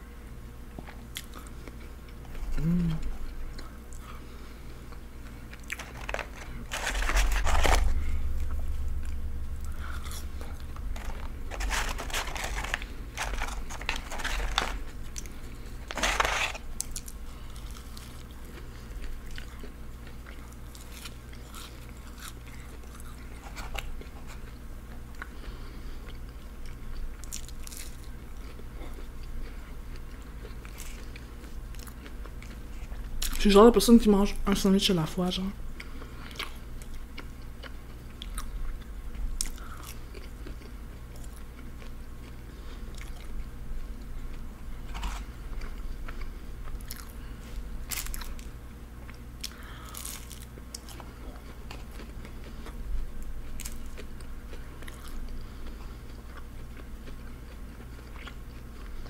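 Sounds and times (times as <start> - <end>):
steady low hum: 0.0 - 59.0
chewing and crunching food: 0.7 - 33.5, 35.6 - 59.0.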